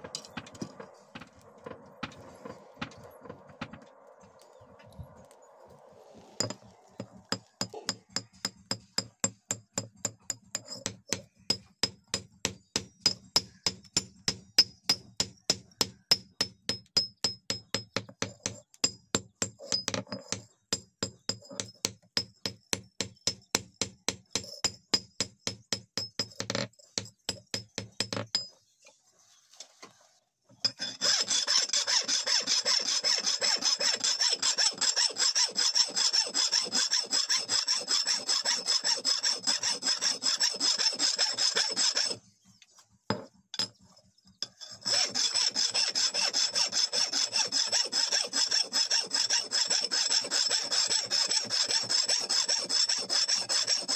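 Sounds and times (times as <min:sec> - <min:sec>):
file rasping on axe edge: 0:06.4 - 0:28.4, 0:30.6 - 0:42.3, 0:44.4 - 0:53.9.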